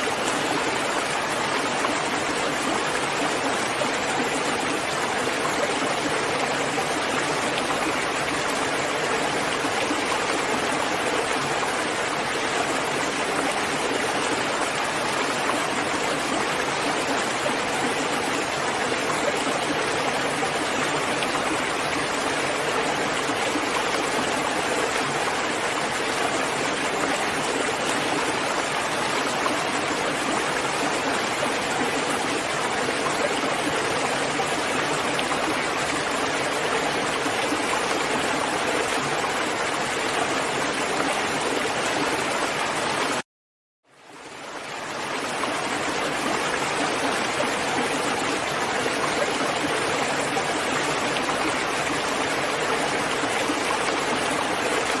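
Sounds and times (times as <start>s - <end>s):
steady dense rainfall: 0.0s - 43.2s, 43.9s - 55.0s.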